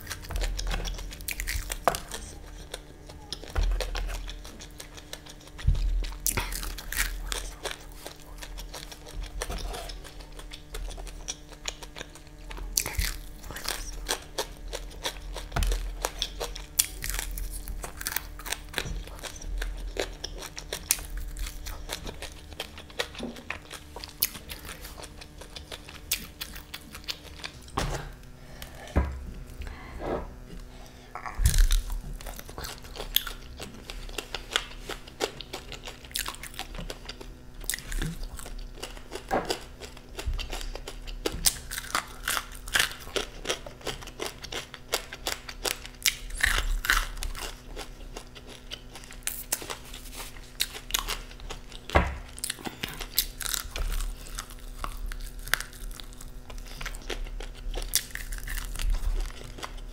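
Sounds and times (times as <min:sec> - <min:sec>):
crunching and chewing fried food: 0:00.0 - 0:59.9.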